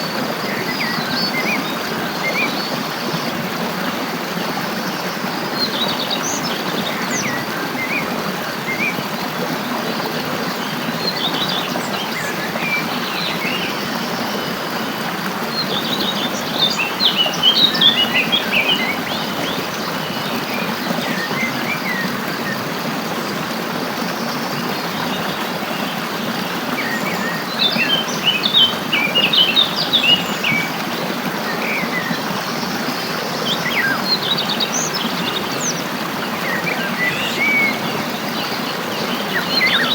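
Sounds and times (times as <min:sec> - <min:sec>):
stream water flowing: 0:00.0 - 0:39.9
songbirds chirping: 0:04.4 - 0:23.0, 0:24.0 - 0:39.9.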